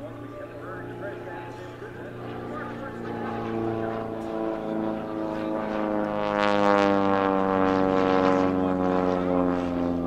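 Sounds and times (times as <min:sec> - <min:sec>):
propeller plane droning overhead: 0:00.0 - 0:10.0.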